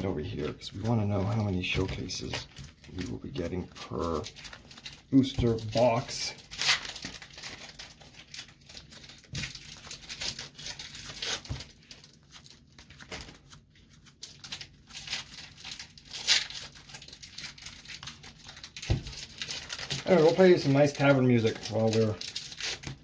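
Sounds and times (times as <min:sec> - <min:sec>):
wrappers crinkling and tearing: 0:00.0 - 0:23.0.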